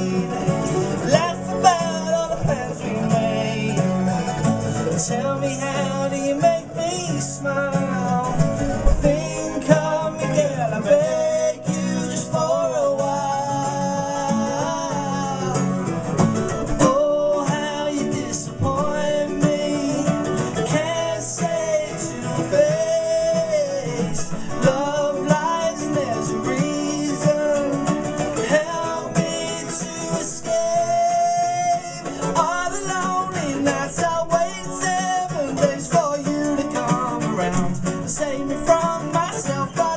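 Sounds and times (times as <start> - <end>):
acoustic guitars strummed and picked: 0.0 - 39.9
man singing: 0.0 - 39.9.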